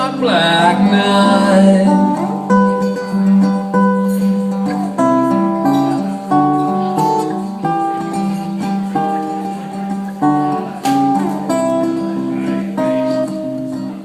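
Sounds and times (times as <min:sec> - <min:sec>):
acoustic guitar fingerpicking: 0:00.0 - 0:14.0.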